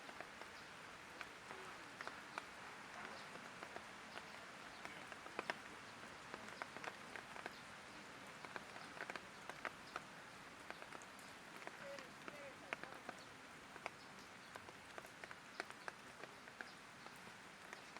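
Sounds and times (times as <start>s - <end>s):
light rain hissing: 0.0s - 17.9s
raindrops ticking on hard surfaces: 0.0s - 17.9s.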